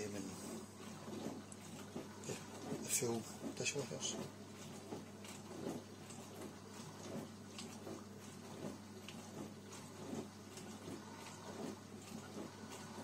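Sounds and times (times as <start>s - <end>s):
dishwasher pump hum: 0.0s - 13.0s.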